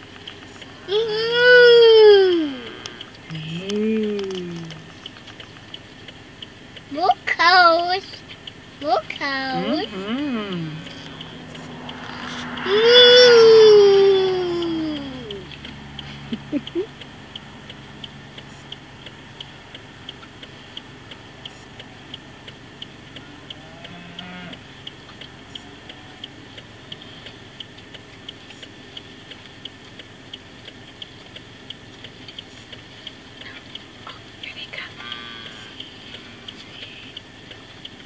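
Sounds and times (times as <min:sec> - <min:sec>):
high sharp ticking: 0:00.0 - 0:38.0.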